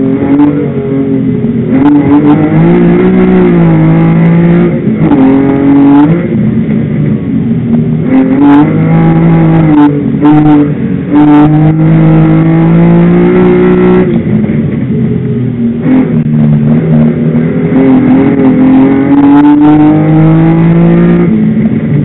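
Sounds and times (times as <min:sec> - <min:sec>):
car engine at hard throttle: 0:00.0 - 0:22.0.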